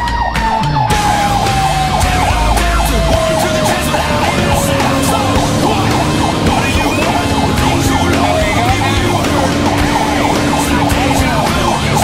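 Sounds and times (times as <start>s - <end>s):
siren yelping: 0.0s - 12.0s
truck engine rumble: 0.0s - 12.0s
steady low tone: 0.9s - 12.0s.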